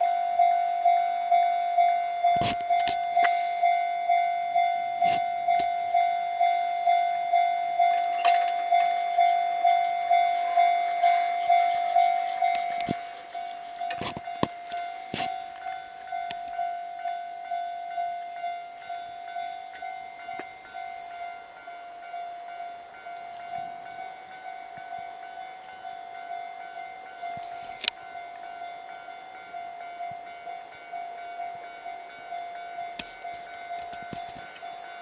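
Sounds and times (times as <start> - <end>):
level-crossing warning bell ringing: 0.0 - 35.0.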